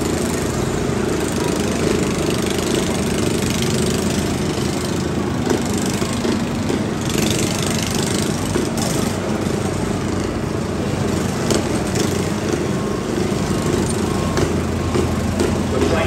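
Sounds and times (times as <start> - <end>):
lawn mower engines running: 0.0 - 16.0.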